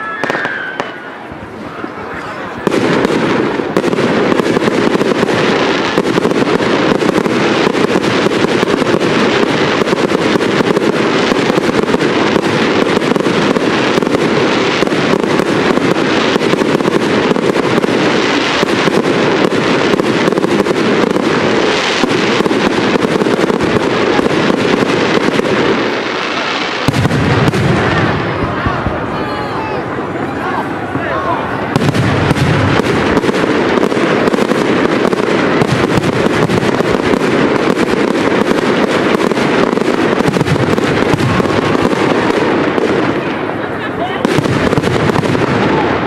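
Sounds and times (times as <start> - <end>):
fireworks crackling and popping: 0.0 - 46.0.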